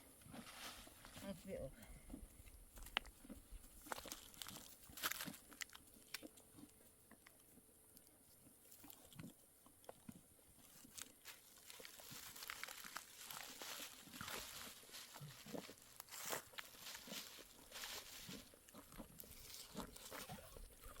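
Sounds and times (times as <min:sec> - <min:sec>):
faint crunches and clicks: 0:02.4 - 0:21.0.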